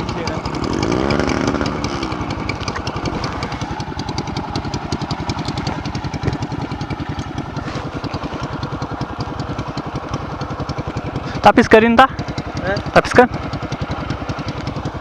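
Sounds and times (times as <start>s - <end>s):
motorcycle engine puttering: 0.0s - 15.0s.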